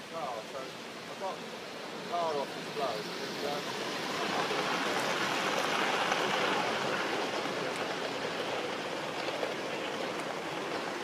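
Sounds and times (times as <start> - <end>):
model train wheels on track: 0.0 - 11.0.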